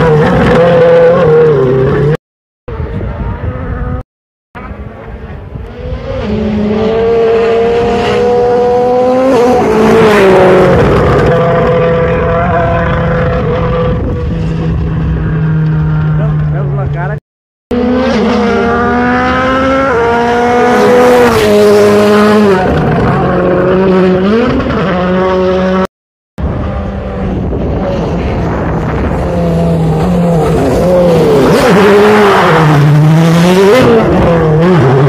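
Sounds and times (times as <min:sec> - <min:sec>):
rally car engine at full throttle: 0:00.0 - 0:04.0, 0:04.6 - 0:35.0.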